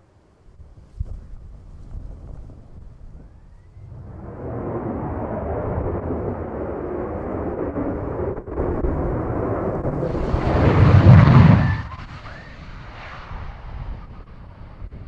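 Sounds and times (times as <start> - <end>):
jet engine rumble: 1.2 - 15.0.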